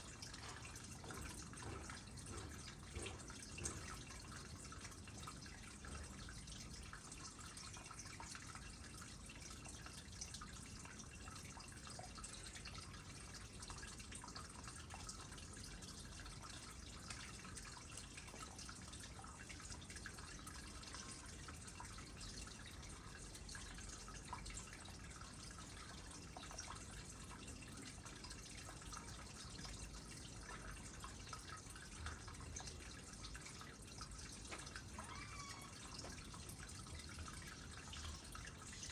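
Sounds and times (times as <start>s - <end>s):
water drips and plinks: 0.0s - 38.9s
water trickling into pond: 0.0s - 38.9s.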